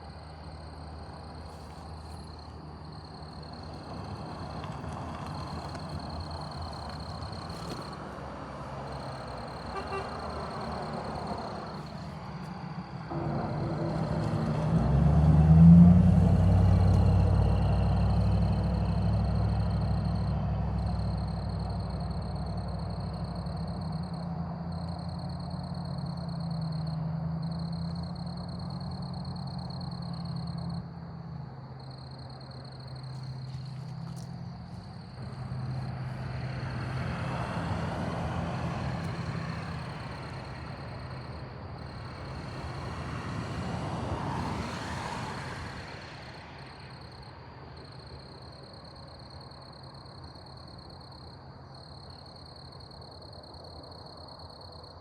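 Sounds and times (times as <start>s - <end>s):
faint vehicle passing: 0.0s - 54.0s
vehicle passing with engine rumble: 0.0s - 55.0s.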